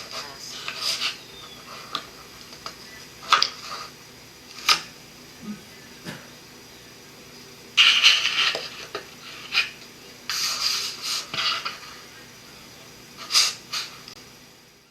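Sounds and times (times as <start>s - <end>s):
low steady hiss: 0.0s - 14.9s.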